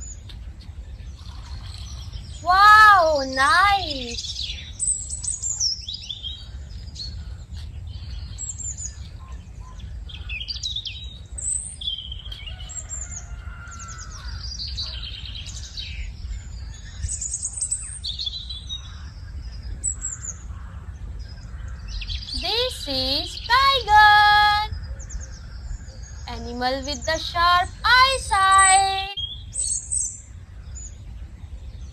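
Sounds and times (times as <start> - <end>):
songbirds chirping and singing: 0.0 - 31.9.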